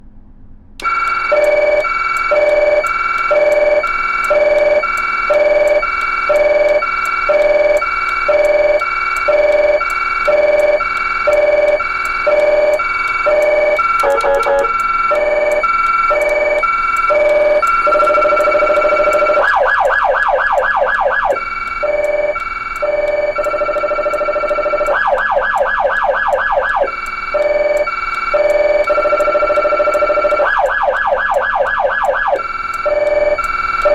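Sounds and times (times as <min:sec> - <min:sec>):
rapid siren warble: 0:00.8 - 0:33.9
two-tone police siren: 0:00.8 - 0:33.9.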